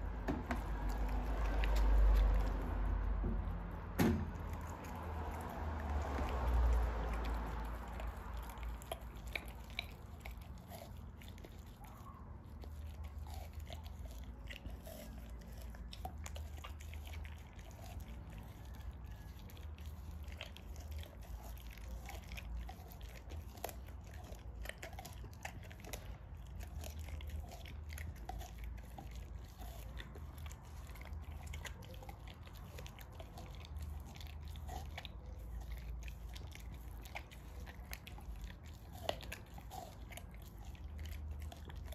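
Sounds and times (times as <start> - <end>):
dog chewing meat and bone: 0.0 - 41.9
teeth crunching bone: 0.0 - 41.9.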